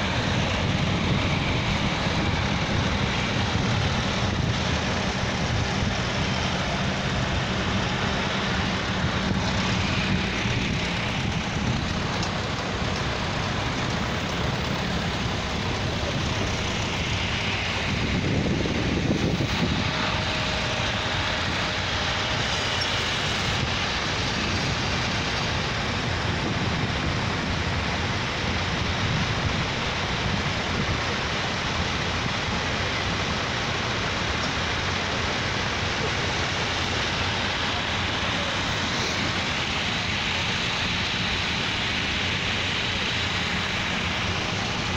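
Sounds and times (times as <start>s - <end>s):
tractors driving past: 0.0s - 44.9s.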